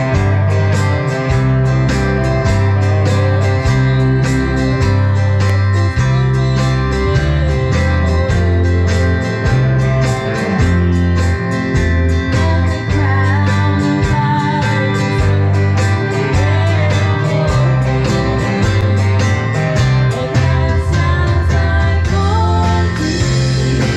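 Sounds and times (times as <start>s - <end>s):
bass line: 0.0s - 23.9s
electric guitar: 0.0s - 23.9s.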